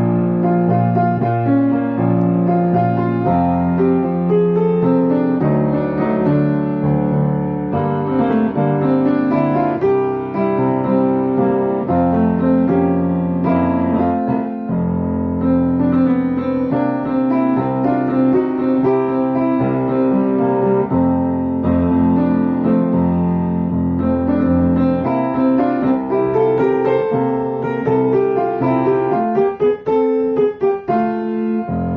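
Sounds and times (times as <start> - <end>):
calm piano music: 0.0 - 31.9.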